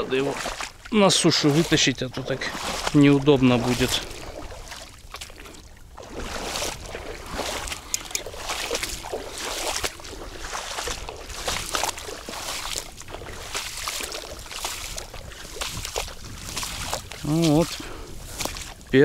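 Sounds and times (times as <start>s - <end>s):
splashing in shallow water: 0.0s - 19.0s
wind rumble on microphone: 1.9s - 19.0s.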